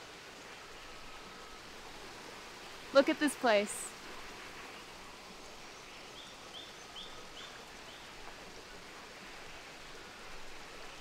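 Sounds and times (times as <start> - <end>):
creek rushing: 0.0 - 11.0.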